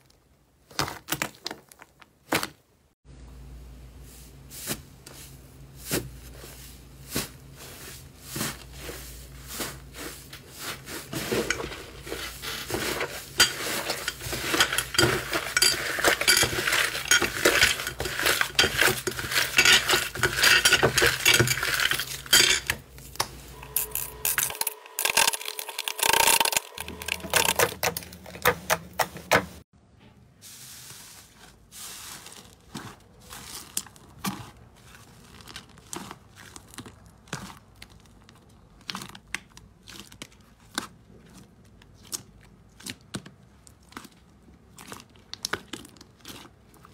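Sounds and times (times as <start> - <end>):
slime crackling and squelching: 5.8 - 28.6, 31.8 - 46.9.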